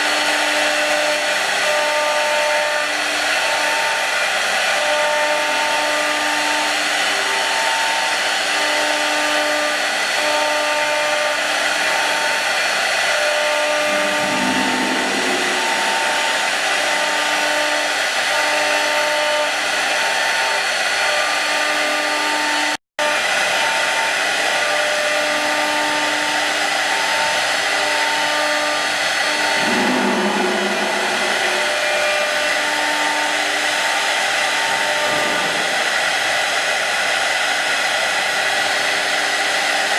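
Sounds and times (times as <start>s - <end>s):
cnc router spindles whirring: 0.0s - 39.9s.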